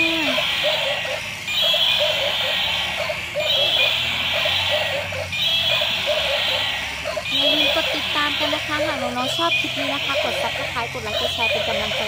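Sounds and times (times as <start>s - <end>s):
high chirping toy calls: 0.0s - 12.0s.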